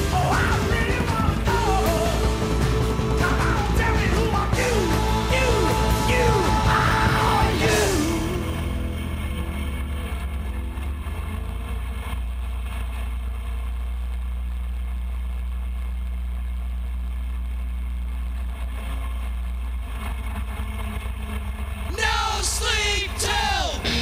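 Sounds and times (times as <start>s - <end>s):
go-kart engine running: 0.0s - 24.0s.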